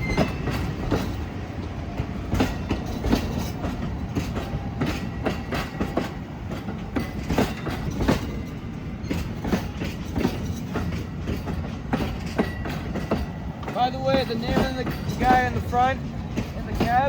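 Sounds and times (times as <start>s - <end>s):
train cars rumbling: 0.0s - 17.0s
wheels clicking over rail joints: 0.0s - 17.0s.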